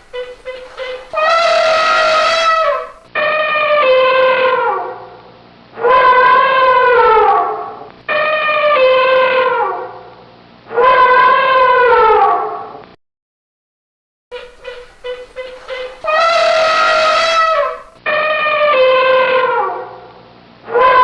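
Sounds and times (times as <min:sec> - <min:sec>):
elephant trumpeting: 0:00.0 - 0:05.0, 0:05.8 - 0:10.0, 0:10.7 - 0:12.4, 0:14.3 - 0:20.0, 0:20.7 - 0:21.0.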